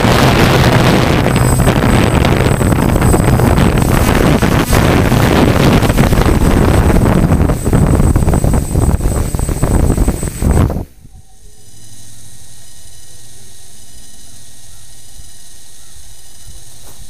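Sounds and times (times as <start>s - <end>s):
drone propellers rushing: 0.0s - 17.0s
high motor whine: 0.0s - 17.0s.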